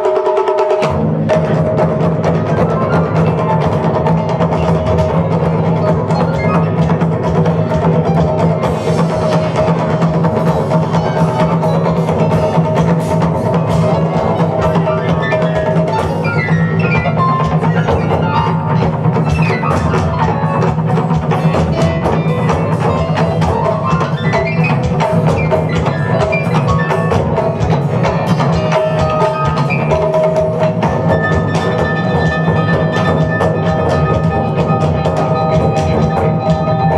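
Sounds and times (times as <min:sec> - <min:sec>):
funk band playing: 0:00.0 - 0:36.9
taiko drumming: 0:00.0 - 0:36.9.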